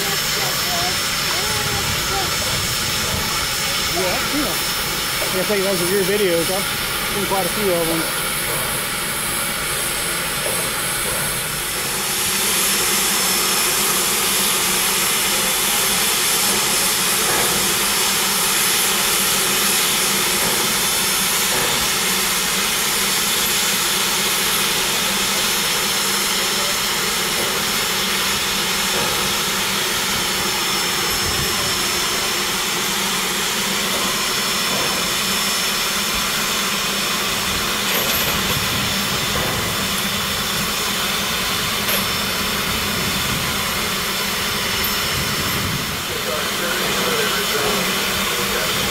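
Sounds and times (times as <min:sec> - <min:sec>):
steam locomotive hissing: 0:00.0 - 0:48.9.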